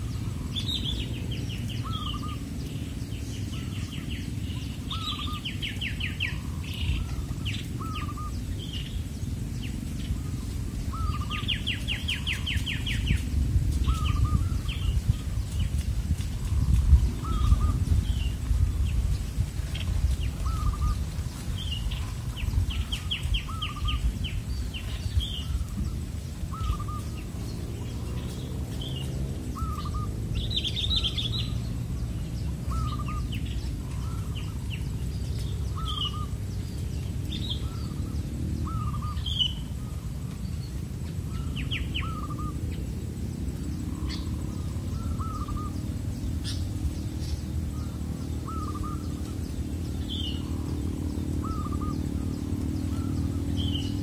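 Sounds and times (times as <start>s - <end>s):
bird hooked calls: 0.0s - 54.0s
steady low rumble: 0.0s - 54.0s.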